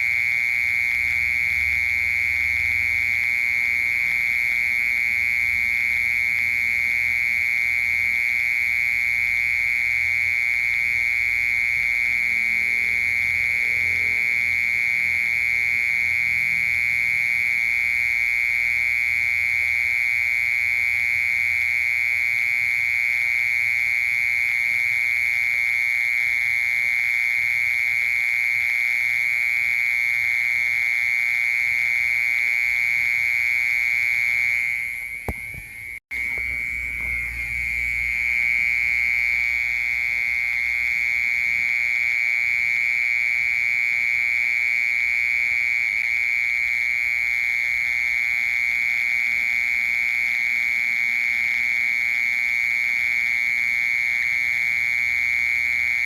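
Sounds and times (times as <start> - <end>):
cricket trilling: 0.0 - 56.0.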